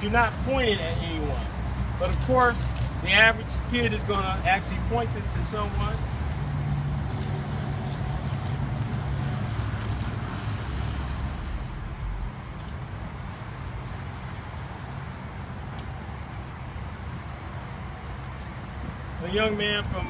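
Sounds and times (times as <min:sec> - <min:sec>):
steady low rumble: 0:00.0 - 0:19.8.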